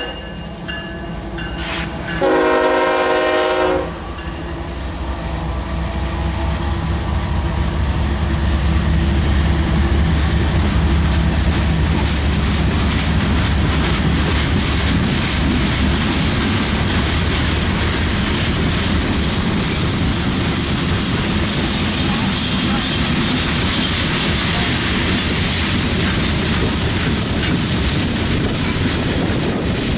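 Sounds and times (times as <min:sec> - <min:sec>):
diesel train rumble: 0:00.0 - 0:29.9
train wheels clattering on rails: 0:04.0 - 0:29.9.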